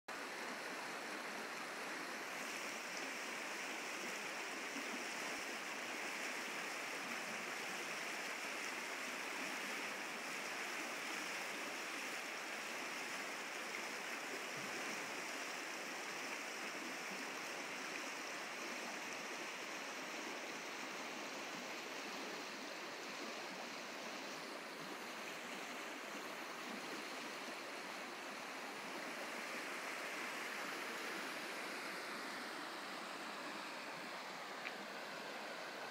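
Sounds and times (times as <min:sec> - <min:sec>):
brook flowing: 0:00.1 - 0:35.9.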